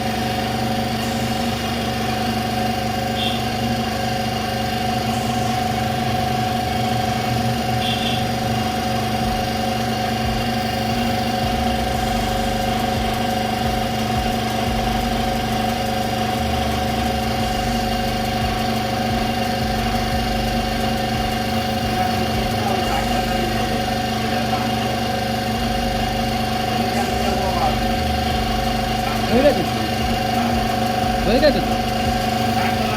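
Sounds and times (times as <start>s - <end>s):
steady machine hum: 0.0s - 32.9s.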